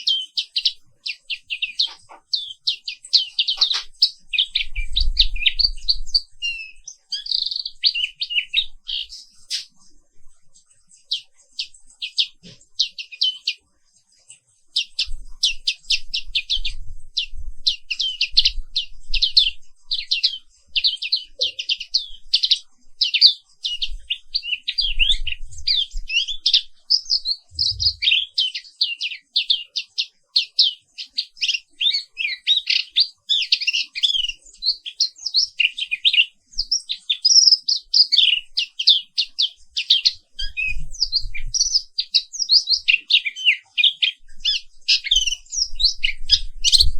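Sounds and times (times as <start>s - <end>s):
bird chirps and trills: 0.0s - 46.9s.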